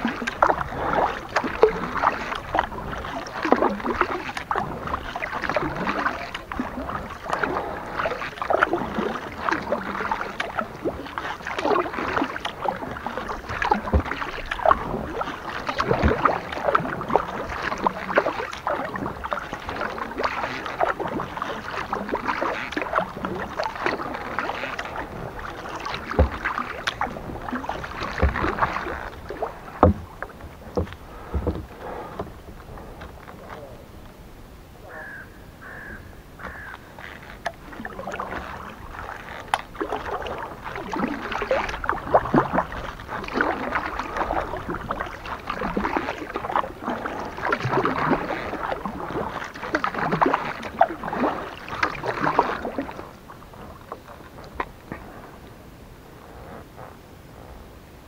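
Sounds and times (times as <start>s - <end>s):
water splashing and dripping: 0.0s - 33.6s, 36.4s - 55.0s
kayak paddle dipping in water: 0.0s - 58.0s.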